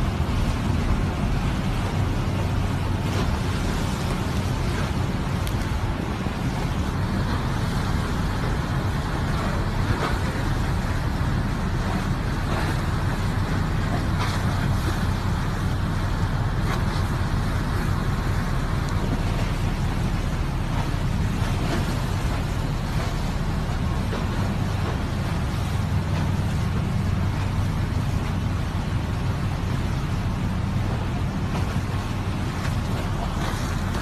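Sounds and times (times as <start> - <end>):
choppy water: 0.0 - 34.0
storm wind on microphone: 0.0 - 34.0.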